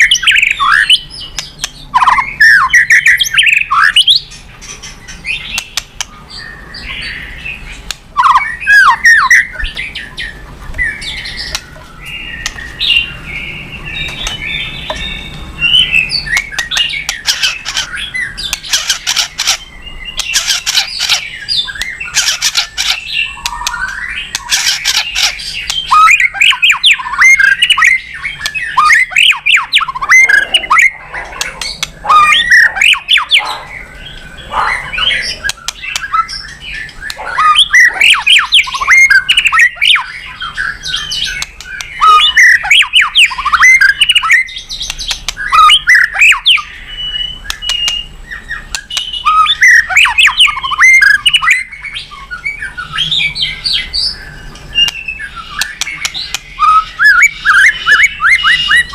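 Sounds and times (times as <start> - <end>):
bird singing varied song: 0.0 - 58.9.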